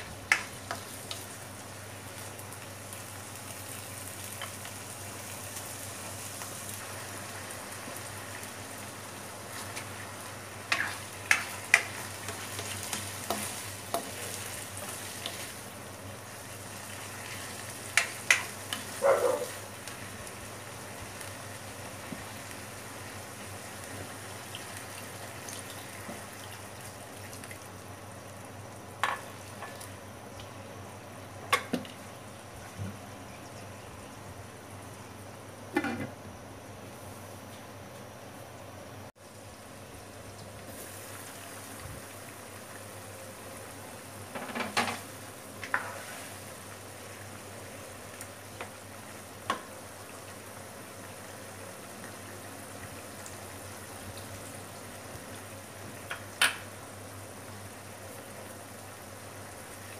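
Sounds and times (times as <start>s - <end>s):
meat sizzling in a wok: 0.0s - 32.7s, 39.1s - 59.9s.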